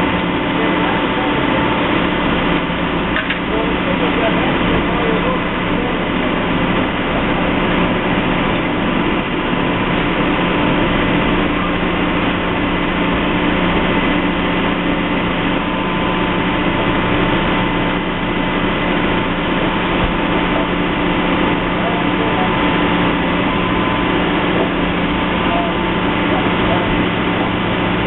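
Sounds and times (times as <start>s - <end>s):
heavy machinery engine running: 0.0s - 28.0s.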